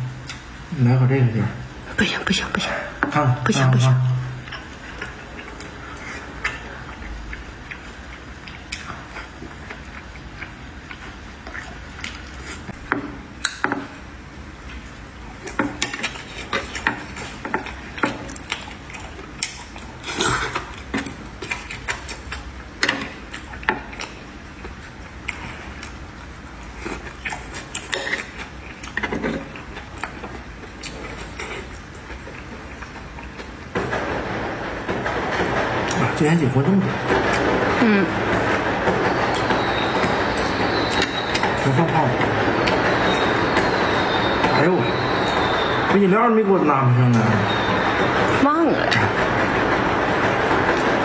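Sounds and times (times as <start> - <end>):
low background hum: 0.0 - 51.0.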